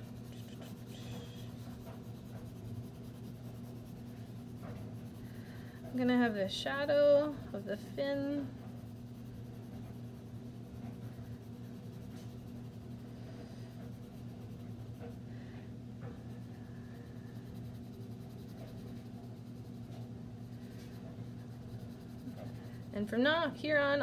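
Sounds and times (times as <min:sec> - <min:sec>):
pencil scratching on paper: 0:00.0 - 0:15.2, 0:16.2 - 0:23.5
steady low hum: 0:00.0 - 0:24.0.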